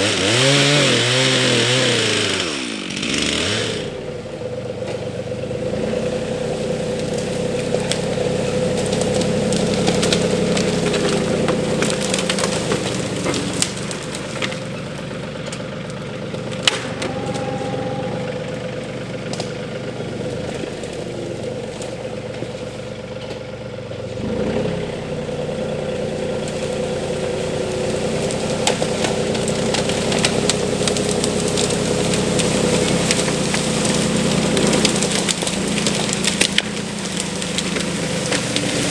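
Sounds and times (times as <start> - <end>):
wood snapping: 0.0 - 5.4, 6.7 - 23.7, 26.0 - 38.9
tractor engine running: 0.0 - 38.9.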